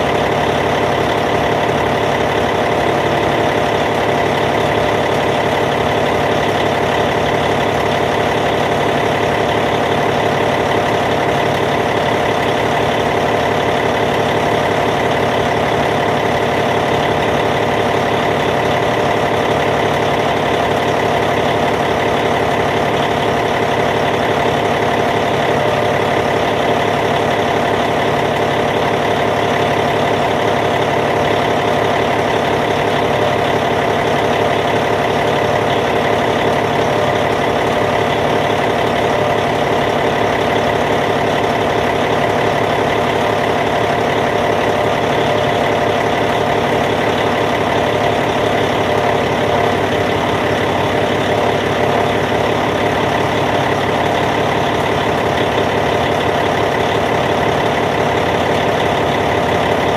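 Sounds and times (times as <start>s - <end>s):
bulldozer diesel engine idling: 0.0s - 59.9s.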